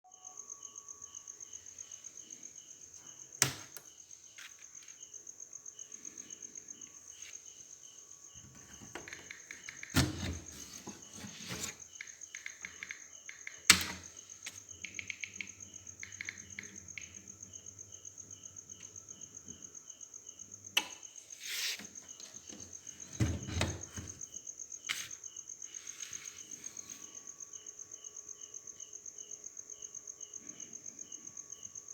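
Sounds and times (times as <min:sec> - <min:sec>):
cricket chirping: 0:00.0 - 0:31.9.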